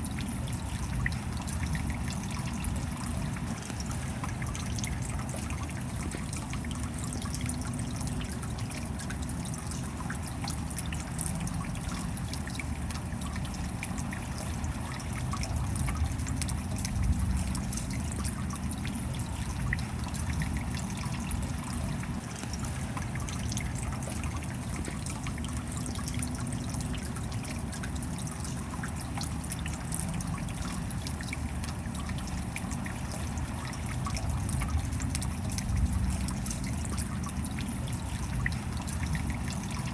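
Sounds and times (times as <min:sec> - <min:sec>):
steady rain: 0:00.0 - 0:39.9
water trickling and dripping: 0:00.0 - 0:39.9.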